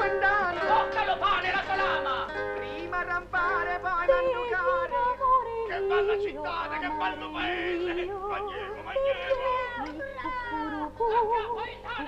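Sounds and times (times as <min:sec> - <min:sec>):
wordless singing with vibrato: 0:00.0 - 0:12.0.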